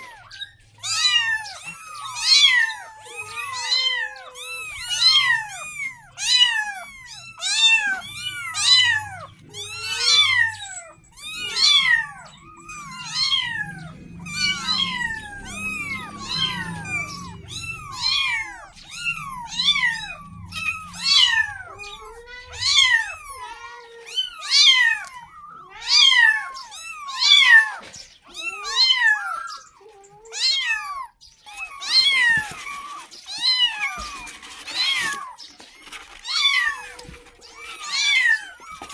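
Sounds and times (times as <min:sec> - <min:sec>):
kittens meowing: 0:00.0 - 0:38.9.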